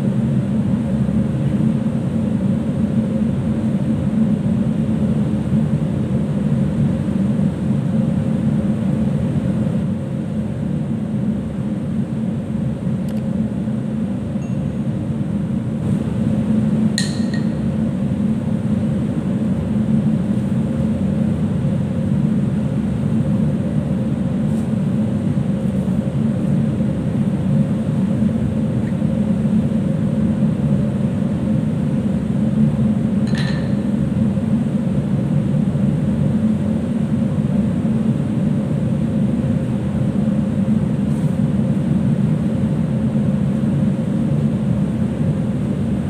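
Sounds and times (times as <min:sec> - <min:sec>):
ship machinery drone: 0:00.0 - 0:46.0.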